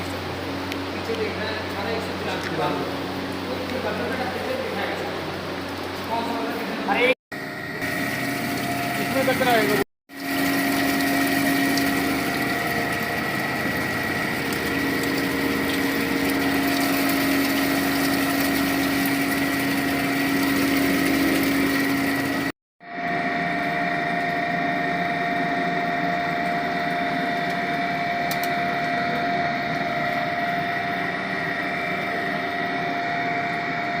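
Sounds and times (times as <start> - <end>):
steady hums: 0.0 - 34.0.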